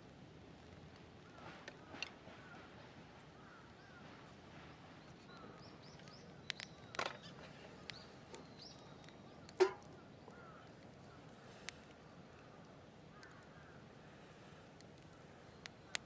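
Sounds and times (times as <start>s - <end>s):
faint birdsong: 0.2s - 16.0s.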